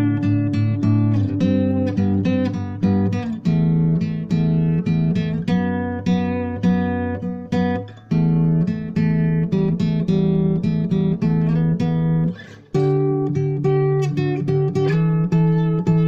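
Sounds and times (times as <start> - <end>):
acoustic guitar plucked notes: 0.0 - 16.0.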